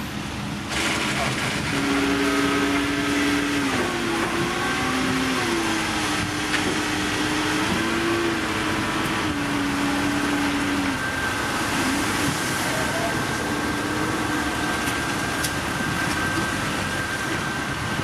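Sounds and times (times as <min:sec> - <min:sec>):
construction machine engine running: 0:00.0 - 0:18.0.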